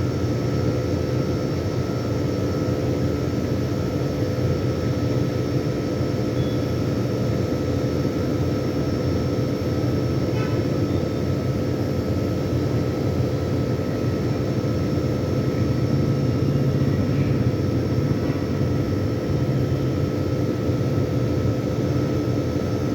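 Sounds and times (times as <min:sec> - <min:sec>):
air conditioner humming: 0:00.0 - 0:22.9.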